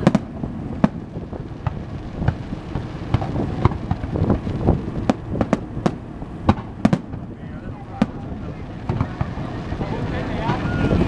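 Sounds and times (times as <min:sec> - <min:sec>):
fireworks bangs: 0:00.0 - 0:11.0
low rumble: 0:00.0 - 0:11.0.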